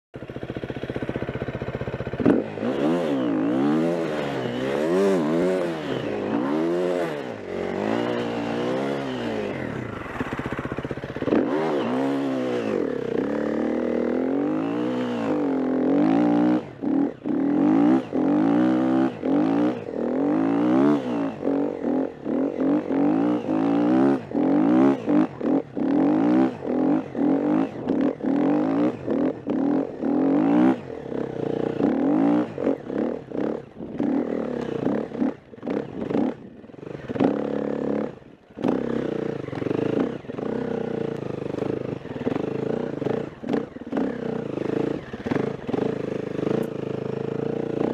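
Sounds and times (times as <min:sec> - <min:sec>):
motorcycle engine revving: 0:00.2 - 0:47.9.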